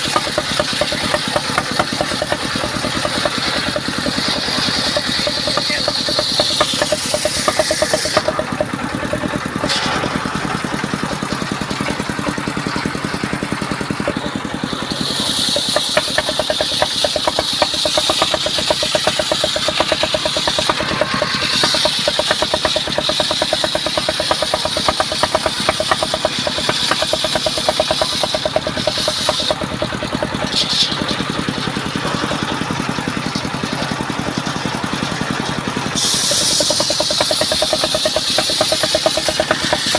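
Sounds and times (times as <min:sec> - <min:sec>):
engine running with rapid pulse: 0:00.0 - 0:39.9.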